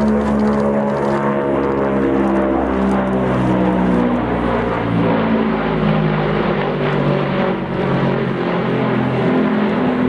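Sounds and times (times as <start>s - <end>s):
propeller aircraft droning overhead: 0.0s - 10.0s.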